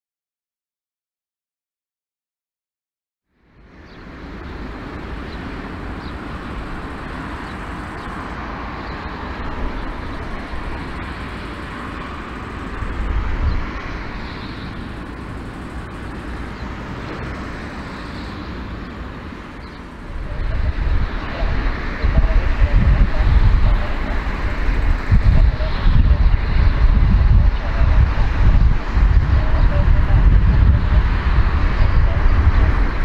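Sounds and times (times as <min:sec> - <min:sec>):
jet engine rumble and hiss: 0:03.3 - 0:33.0.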